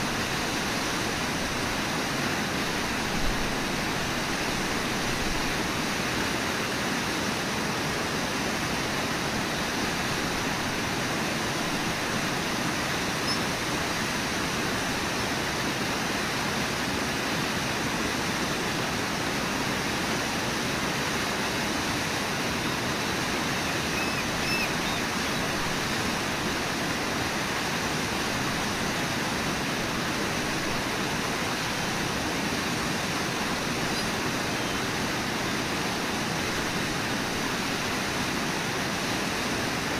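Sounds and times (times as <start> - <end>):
river rapids and waterfall roar: 0.0 - 39.9.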